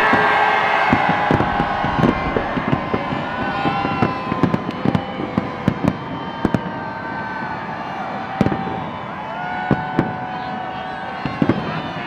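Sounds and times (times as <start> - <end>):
fireworks whistling: 0.0 - 9.0, 9.7 - 12.0
fireworks bangs and crackles: 0.0 - 12.0.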